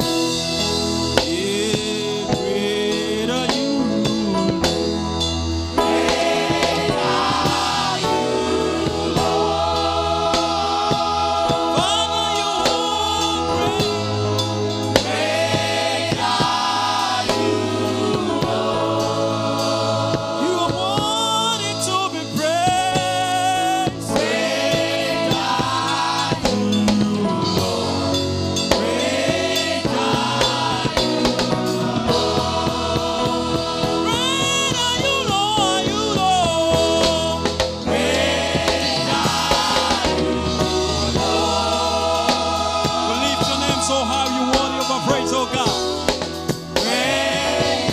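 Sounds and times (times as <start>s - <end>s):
gospel choir singing: 0.0s - 47.9s
live band with bass: 0.0s - 47.9s.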